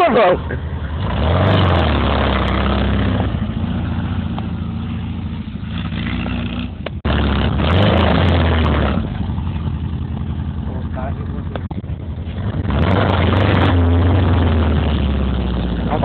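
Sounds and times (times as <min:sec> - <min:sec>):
buggy engine under throttle: 0:00.0 - 0:16.0.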